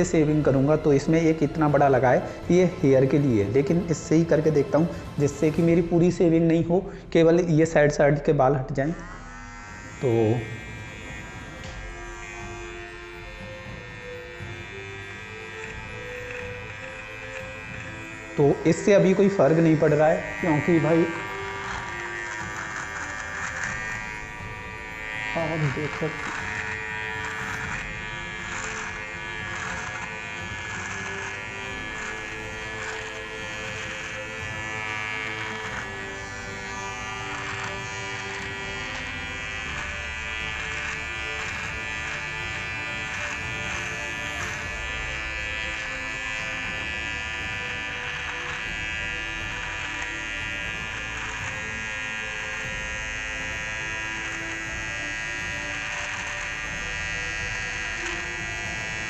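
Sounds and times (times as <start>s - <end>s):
electric beard trimmer buzzing: 0.0s - 59.0s.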